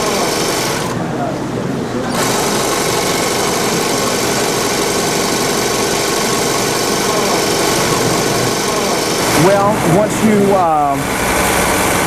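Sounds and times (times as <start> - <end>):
sewing machines running: 0.0 - 12.0.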